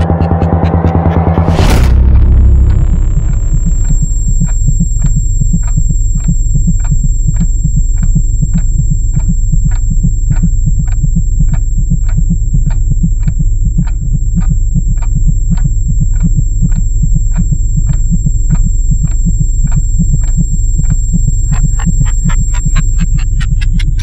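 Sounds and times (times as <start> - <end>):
deep fast pulsing throb: 0.0 - 24.0
sharp ticks: 0.0 - 24.0.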